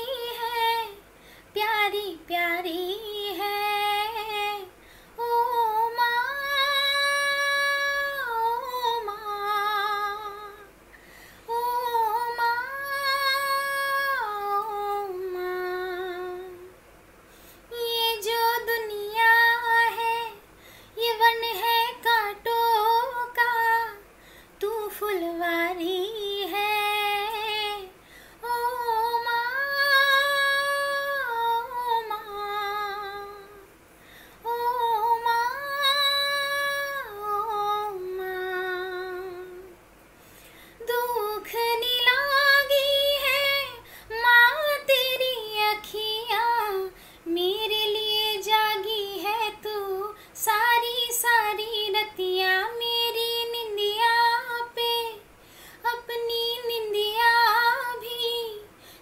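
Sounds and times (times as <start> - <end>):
woman singing unaccompanied: 0.0 - 10.8, 11.4 - 16.8, 17.7 - 33.7, 34.4 - 39.8, 40.8 - 58.8.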